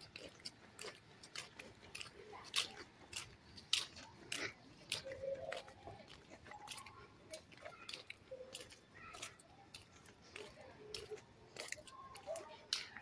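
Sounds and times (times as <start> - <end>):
footsteps on paved road: 0.0 - 13.0.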